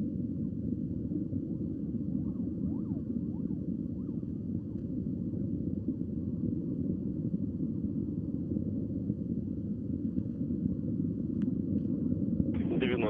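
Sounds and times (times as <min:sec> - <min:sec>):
distant rocket rumble: 0:00.0 - 0:13.0.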